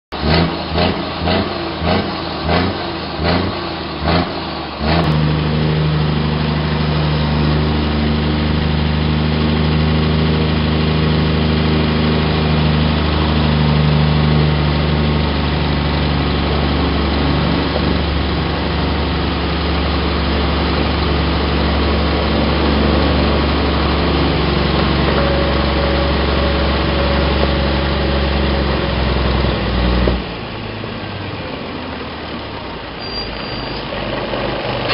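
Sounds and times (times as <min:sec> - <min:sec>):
truck diesel engine idling: 0:00.1 - 0:34.9.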